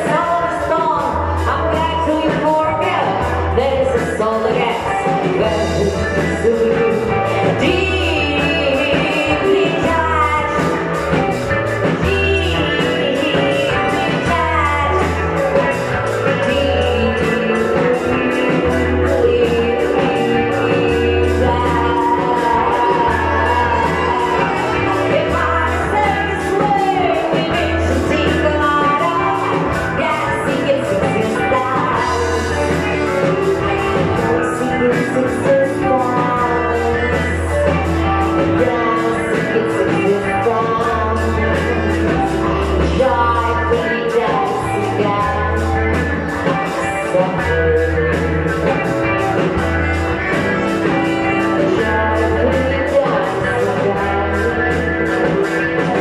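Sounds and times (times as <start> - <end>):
bass: 0.0 - 56.0
drums: 0.0 - 56.0
electric guitar: 0.0 - 56.0
woman singing: 0.0 - 56.0
saxophone: 2.8 - 56.0.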